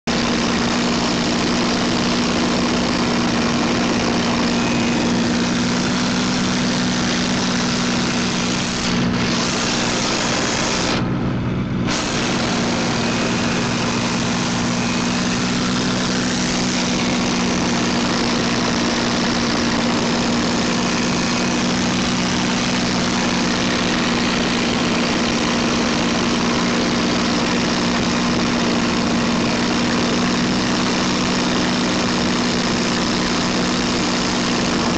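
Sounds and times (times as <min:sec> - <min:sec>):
aircraft engine running: 0:00.0 - 0:34.9
rushing air noise: 0:00.2 - 0:34.9.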